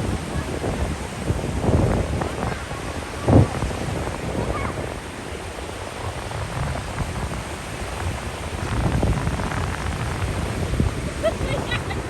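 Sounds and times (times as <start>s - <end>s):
ocean surf washing on shore: 0.0s - 12.0s
wind rumble on microphone: 0.0s - 12.0s.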